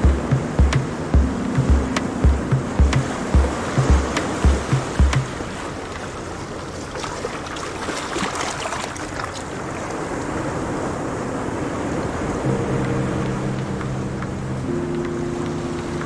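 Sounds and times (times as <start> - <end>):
surf washing over rocks: 0.2 - 14.2.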